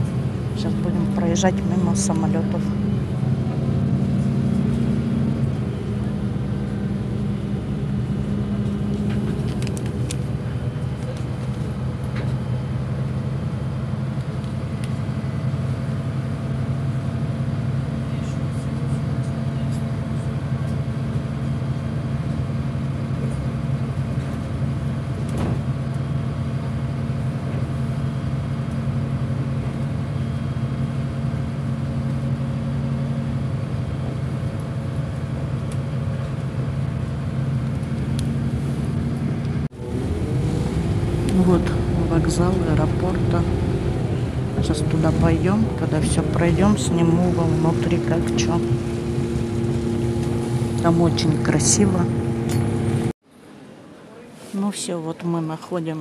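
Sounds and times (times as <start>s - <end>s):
bus interior low hum: 0.0s - 56.0s.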